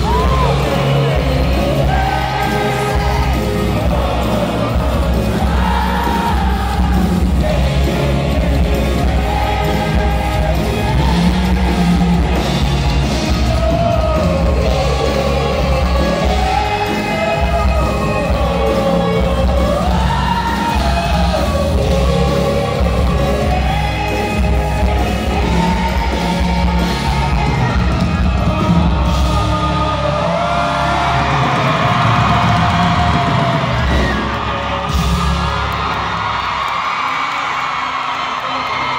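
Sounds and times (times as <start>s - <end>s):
person singing: 0.0s - 35.7s
heavy bass: 0.0s - 36.5s
audience shouting: 0.0s - 38.9s
live pop band through pa: 0.0s - 38.9s.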